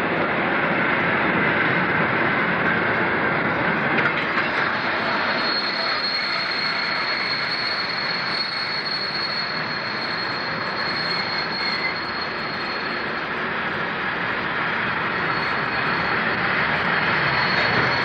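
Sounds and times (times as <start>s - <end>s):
high steady squeal: 0.0s - 18.0s
train wheels rumbling on rails: 0.0s - 18.0s.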